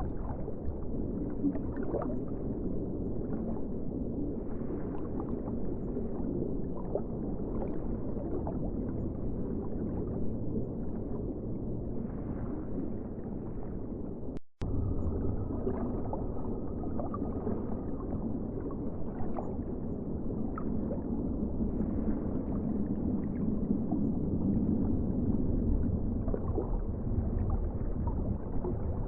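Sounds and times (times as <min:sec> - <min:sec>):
muffled ocean rumble: 0:00.0 - 0:29.0.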